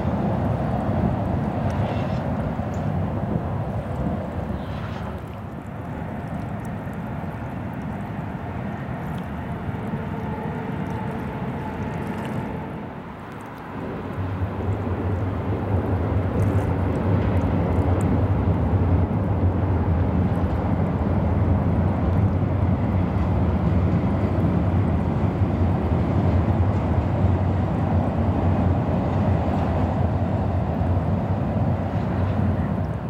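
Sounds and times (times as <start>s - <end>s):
train rumbling across steel bridge: 0.0s - 33.0s.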